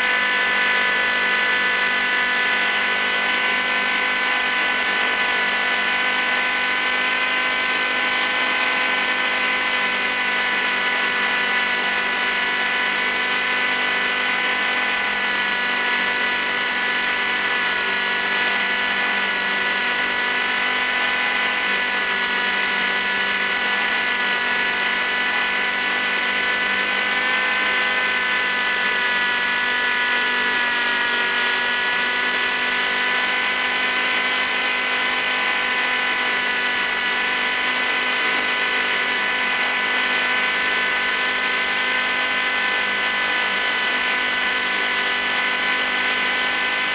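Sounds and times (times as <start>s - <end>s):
model helicopter motor whine: 0.0s - 46.9s.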